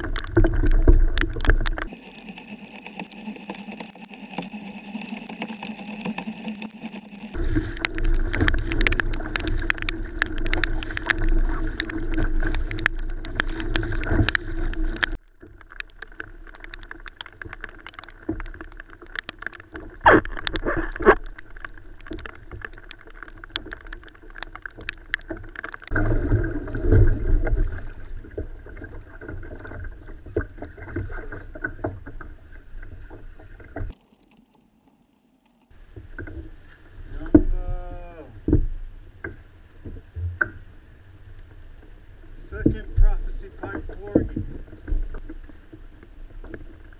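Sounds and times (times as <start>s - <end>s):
water sloshing against hull: 0.0s - 46.9s.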